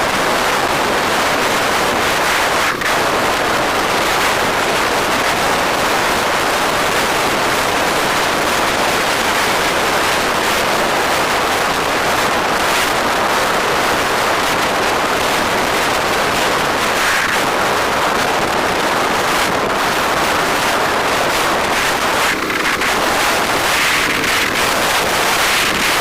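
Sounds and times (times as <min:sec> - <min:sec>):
road and traffic noise: 0:00.0 - 0:26.0
wind on microphone: 0:00.0 - 0:26.0.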